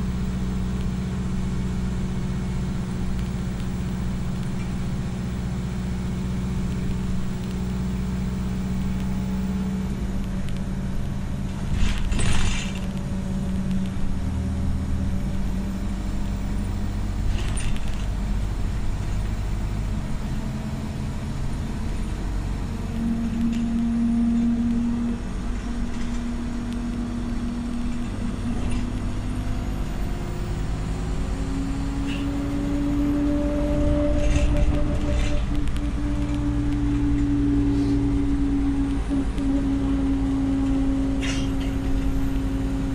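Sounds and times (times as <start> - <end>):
bus engine from inside: 0.0 - 42.9.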